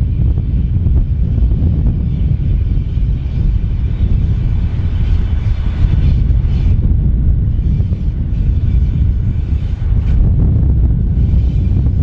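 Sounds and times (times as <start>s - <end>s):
diesel locomotive rumbling: 0.0s - 12.0s.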